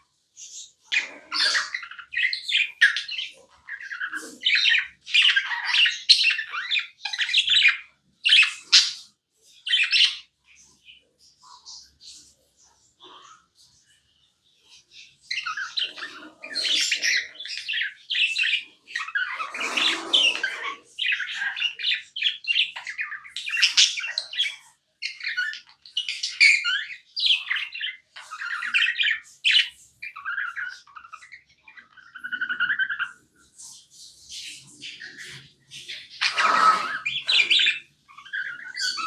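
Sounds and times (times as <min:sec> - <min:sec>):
budgerigars chirping and squawking: 0:00.0 - 0:39.0.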